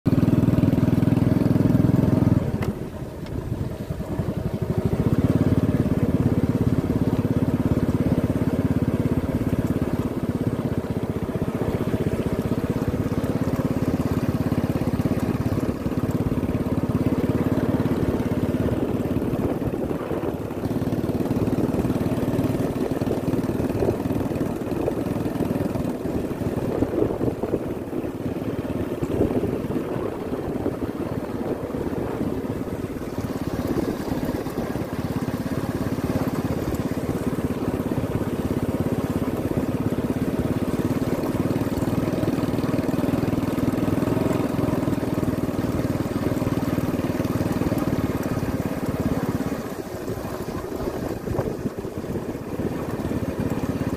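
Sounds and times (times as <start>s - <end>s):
low wind rumble: 0.1s - 53.9s
motorcycle engine running: 0.1s - 53.9s.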